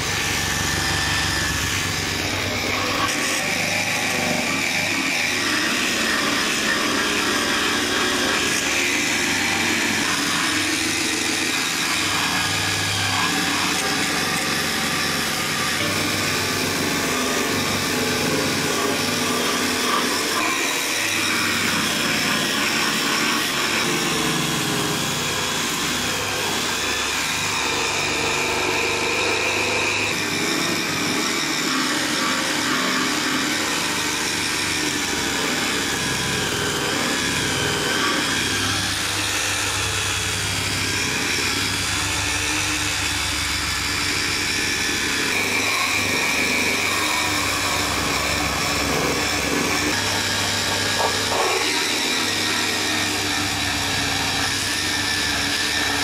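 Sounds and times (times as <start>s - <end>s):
abrasive belt grinding on steel: 0.0s - 56.0s
belt polisher motor whine: 0.0s - 56.0s.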